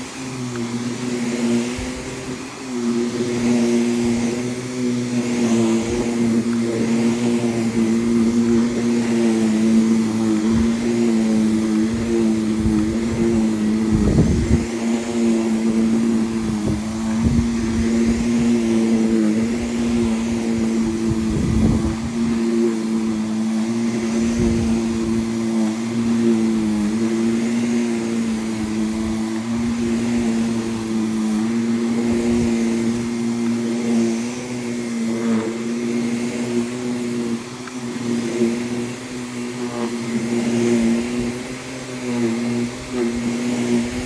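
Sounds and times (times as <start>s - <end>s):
vacuum cleaner running: 0.0s - 44.0s.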